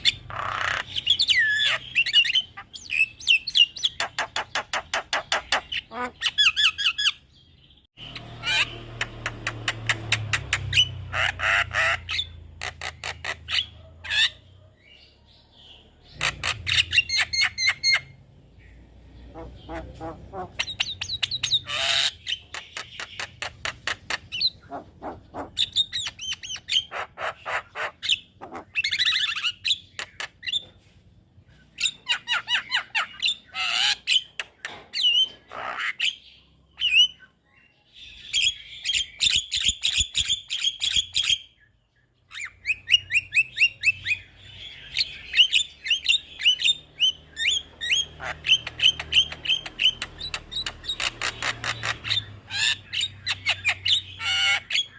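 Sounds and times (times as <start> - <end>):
bird chattering and whistling: 0.0 - 15.1, 15.7 - 30.8, 31.5 - 37.4, 38.0 - 54.9.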